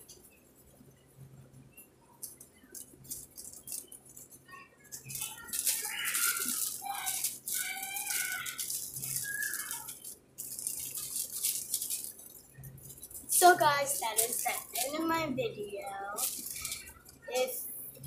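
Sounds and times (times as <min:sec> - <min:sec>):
plastic wrappers crinkling: 0:02.2 - 0:18.0.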